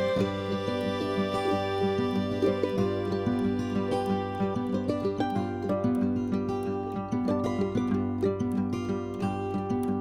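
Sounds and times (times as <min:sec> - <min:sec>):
gentle instrumental music with plucked strings: 0:00.0 - 0:10.0.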